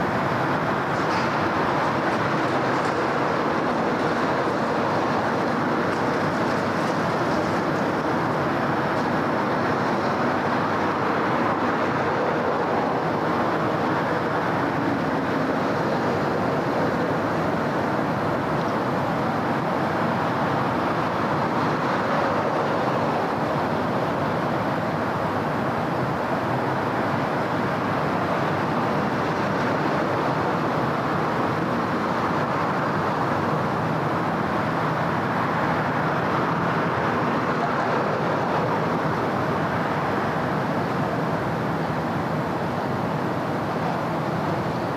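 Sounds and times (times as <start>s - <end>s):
city traffic passing: 0.0s - 44.9s.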